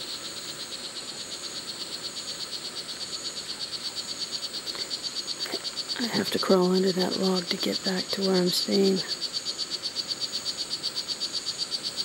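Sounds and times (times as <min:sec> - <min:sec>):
frog mating call pulses: 0:02.4 - 0:12.0.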